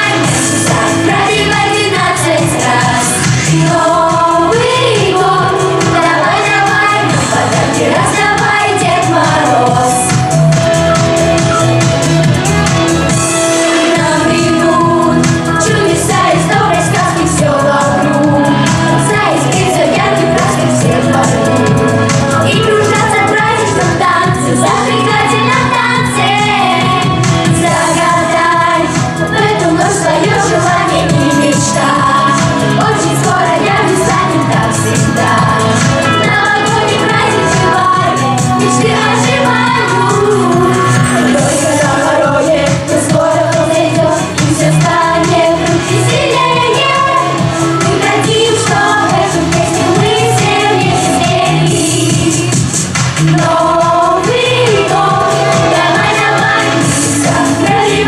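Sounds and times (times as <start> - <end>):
pop group singing with beat: 0.0 - 58.0.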